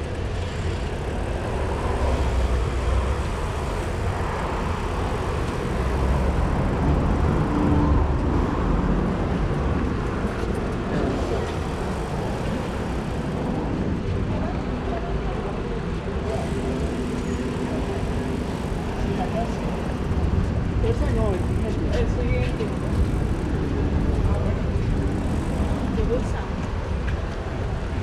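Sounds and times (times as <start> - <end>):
passing cars rumble: 0.0 - 28.0.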